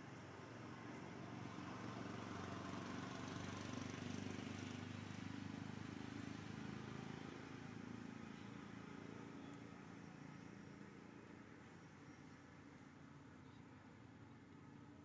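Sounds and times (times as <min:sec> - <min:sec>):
distant vehicle engine hum: 0:00.0 - 0:15.0.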